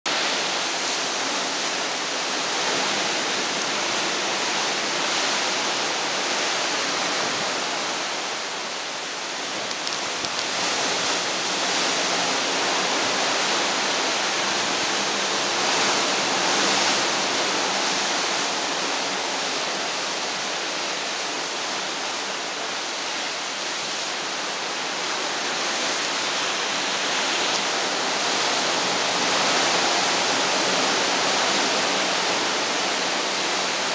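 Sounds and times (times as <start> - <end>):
wind and sea rushing: 0.1 - 33.9.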